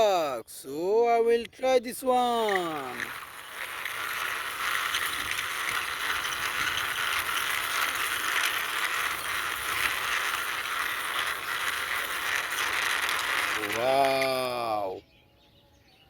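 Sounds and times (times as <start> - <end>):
toy truck wheels rattling: 2.0 - 14.9.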